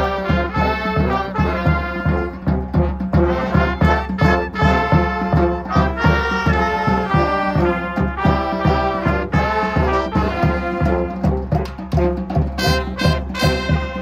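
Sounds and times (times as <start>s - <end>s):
brass band playing: 0.0s - 14.0s
steady drum beat: 0.0s - 14.0s.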